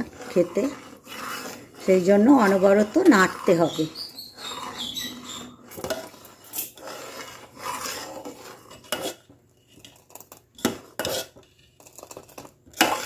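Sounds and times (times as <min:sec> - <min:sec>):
metal ladle scraping a pot: 0:00.0 - 0:13.0.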